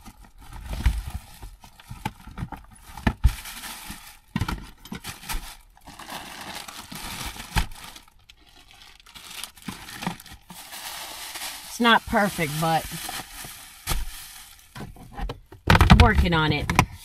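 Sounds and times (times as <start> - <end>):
plastic bags crinkling: 0.0 - 16.6.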